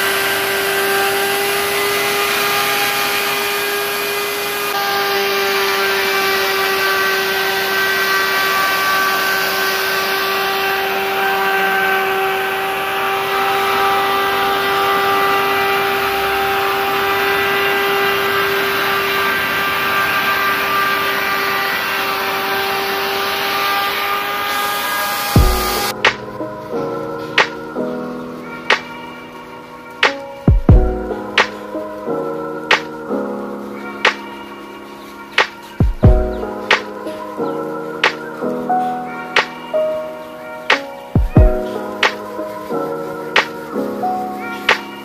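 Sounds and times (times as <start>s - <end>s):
electric router whining: 0.0s - 45.0s.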